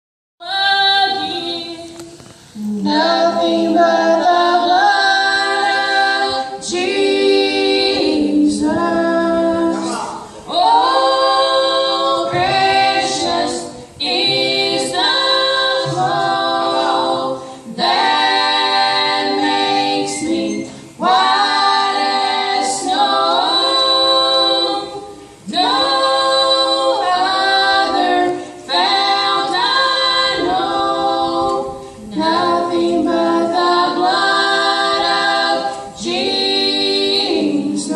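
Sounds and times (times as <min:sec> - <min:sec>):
gospel choir singing a cappella: 0:00.4 - 0:37.9.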